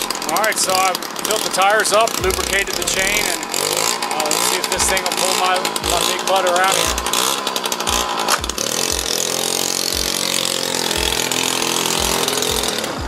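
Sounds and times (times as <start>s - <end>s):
two-stroke engine bogging: 0.0s - 13.0s.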